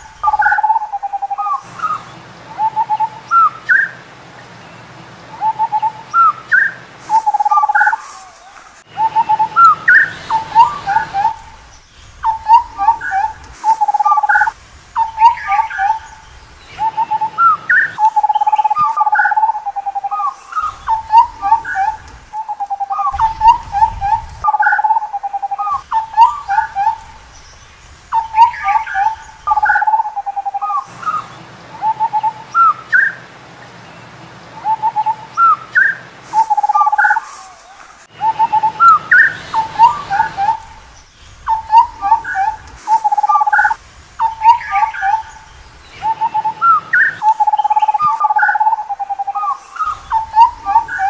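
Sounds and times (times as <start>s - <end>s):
bird calling: 0.0s - 33.7s, 34.5s - 51.0s.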